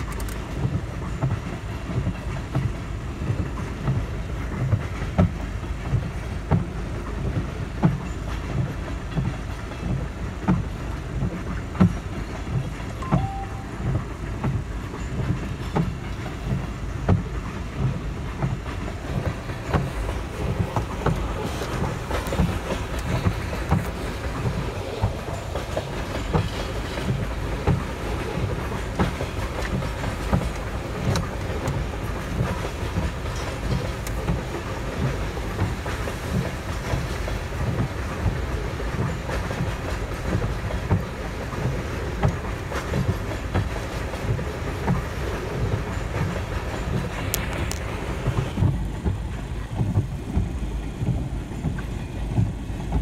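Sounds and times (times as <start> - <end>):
wheel clicks over rail joints: 0.0 - 13.2, 14.1 - 53.0
freight cars rumbling: 0.0 - 53.0.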